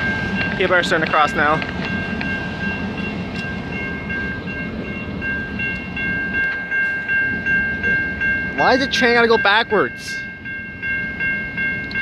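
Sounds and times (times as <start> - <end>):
level crossing bells ringing: 0.0 - 12.0
train rumbling: 0.0 - 12.0.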